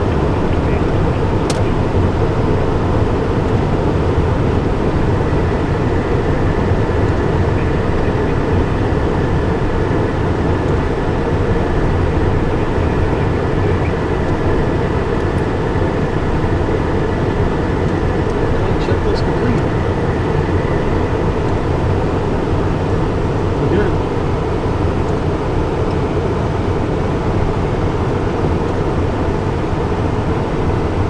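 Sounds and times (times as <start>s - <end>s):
faint steady whine: 0.0s - 31.0s
jet engines and rushing air: 0.0s - 31.0s.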